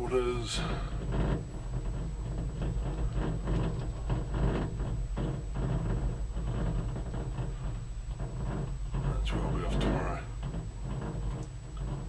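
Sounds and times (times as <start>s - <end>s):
gondola cabin hum and rumble: 0.0s - 12.0s
knocks and rattles: 0.0s - 12.0s.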